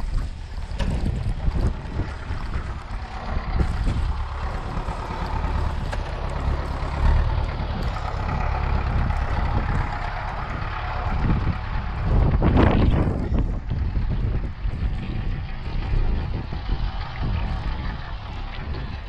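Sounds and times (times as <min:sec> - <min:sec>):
distant tractor diesel engine: 0:00.0 - 0:19.0
wind rumbling on microphone: 0:00.0 - 0:19.0.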